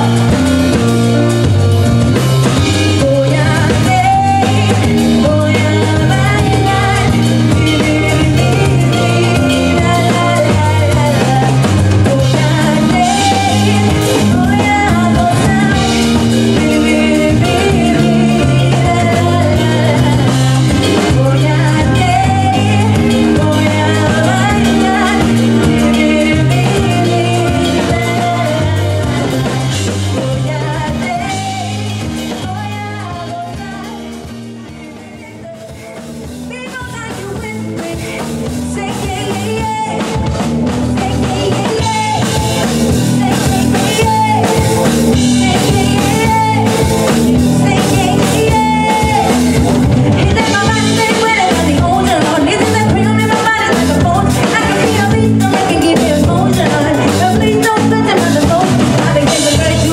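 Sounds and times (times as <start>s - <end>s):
live band playing: 0.0s - 59.9s
woman singing into microphone: 0.0s - 59.9s.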